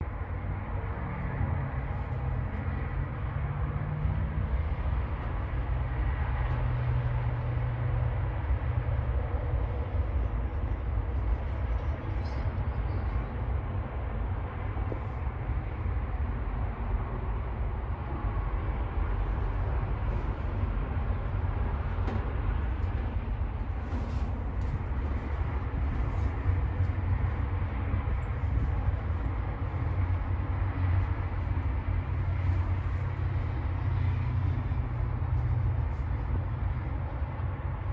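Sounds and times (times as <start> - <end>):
wind blowing across microphone: 0.0 - 37.9.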